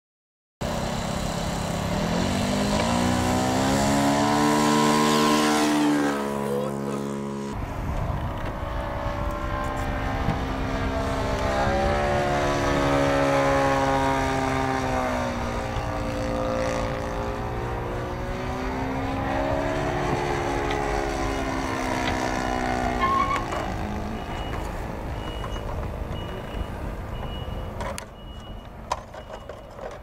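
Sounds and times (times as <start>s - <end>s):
propeller plane flying overhead: 0.6s - 30.0s.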